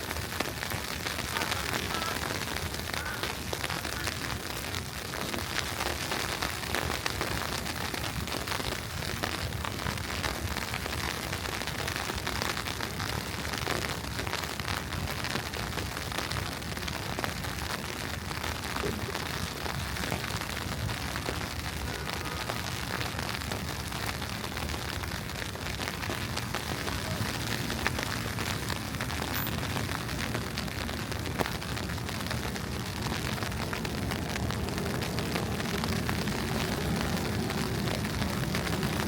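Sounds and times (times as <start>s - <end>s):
low city rumble: 0.0s - 39.0s.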